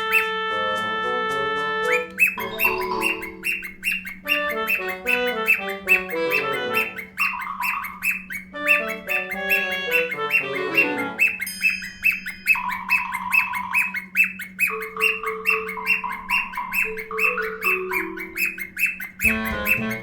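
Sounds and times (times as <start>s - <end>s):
chirpy repeated note music: 0.0s - 20.0s.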